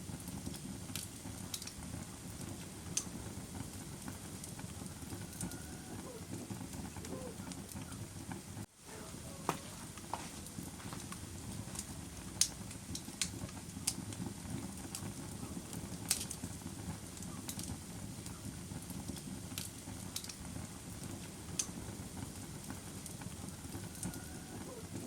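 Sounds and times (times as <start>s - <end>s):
fire crackling and popping: 0.0s - 25.0s
low rush of flames: 0.0s - 25.0s.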